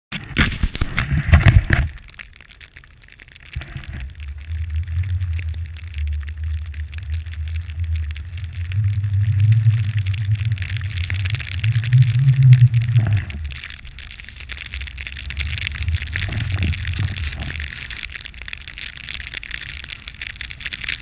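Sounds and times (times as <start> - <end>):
snowboard riding rumble: 0.1 - 21.0
muffled wind: 0.2 - 2.0, 3.6 - 21.0.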